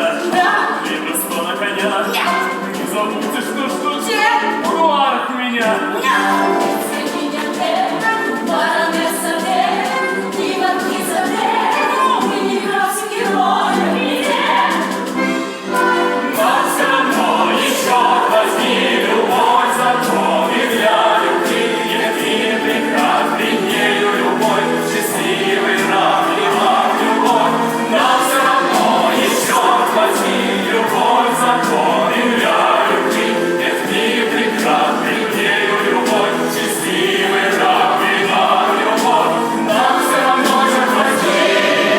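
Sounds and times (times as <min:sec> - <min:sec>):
man and woman singing duet: 0:00.0 - 0:41.9
musical accompaniment: 0:00.0 - 0:41.9.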